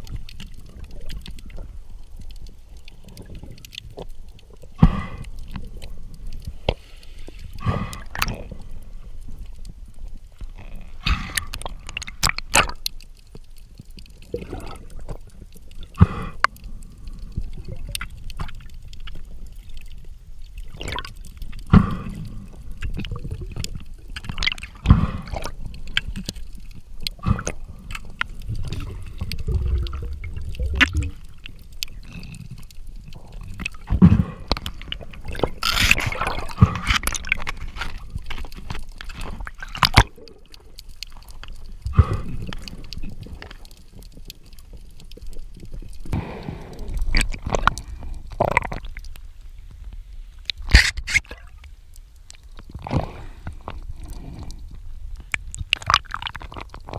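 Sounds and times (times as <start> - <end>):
rush of bubbling: 0.0 - 9.6, 10.3 - 49.2, 52.6 - 56.9
underwater gurgling and sloshing: 0.0 - 56.9.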